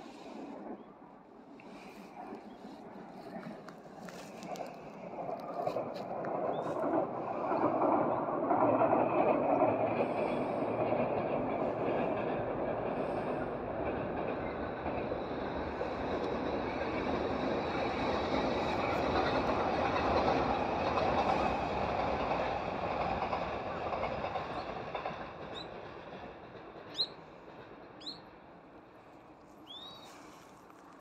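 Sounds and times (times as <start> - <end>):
train wheels on rails: 1.6 - 31.0.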